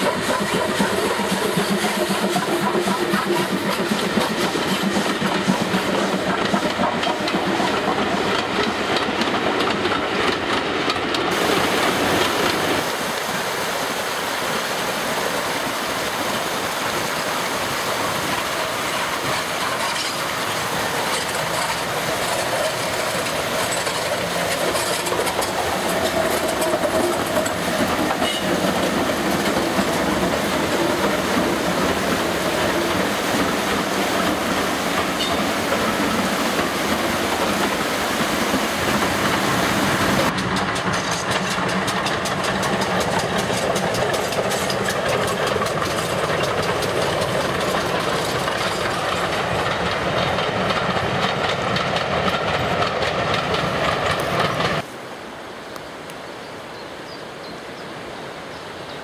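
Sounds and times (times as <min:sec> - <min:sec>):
coach wheels clattering over rail joints: 0:00.0 - 0:13.0, 0:14.8 - 0:54.9
steam locomotive approaching: 0:00.0 - 0:55.2.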